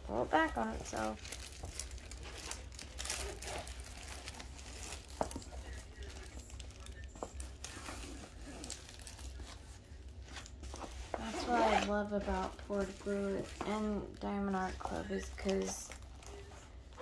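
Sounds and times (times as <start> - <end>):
canvas crinkling and rustling: 0.4 - 17.0.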